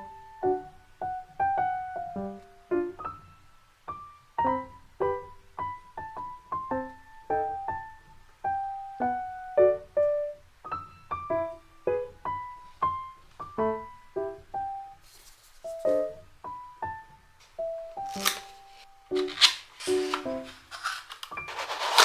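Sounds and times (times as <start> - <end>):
gentle piano melody: 0.0 - 15.0, 15.7 - 20.5.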